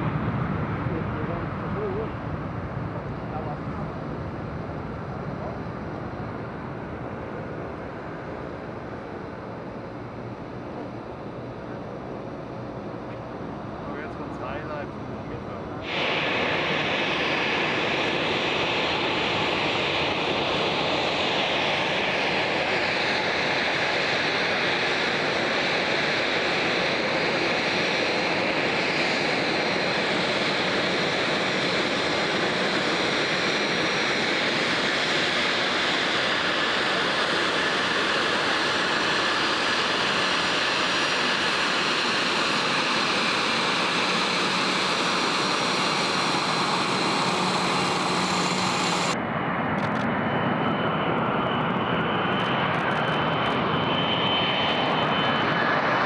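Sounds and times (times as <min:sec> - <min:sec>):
jet engine whine: 0:00.0 - 0:56.0.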